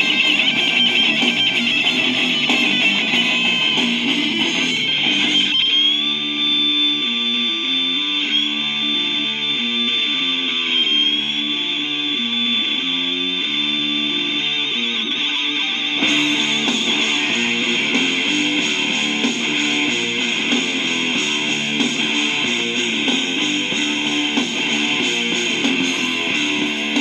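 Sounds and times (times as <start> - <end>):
rock guitars playing chords: 0.0 - 27.0.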